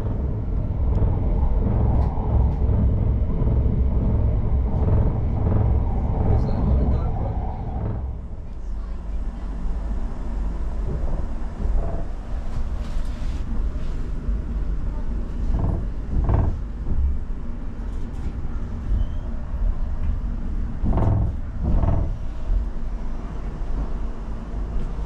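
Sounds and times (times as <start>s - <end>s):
train carriage rumble: 0.0s - 25.0s.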